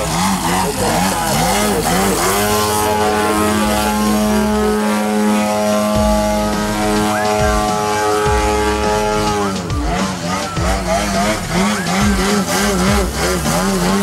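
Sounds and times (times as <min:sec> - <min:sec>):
model plane propeller engine: 0:00.0 - 0:14.0.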